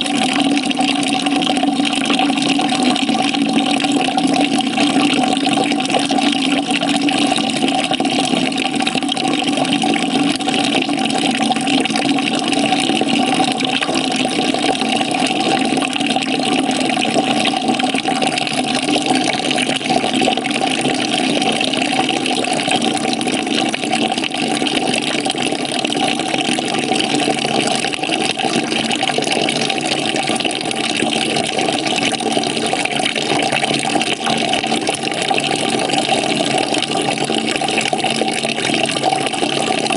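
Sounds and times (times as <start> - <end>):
water pouring into a bucket: 0.0 - 39.9.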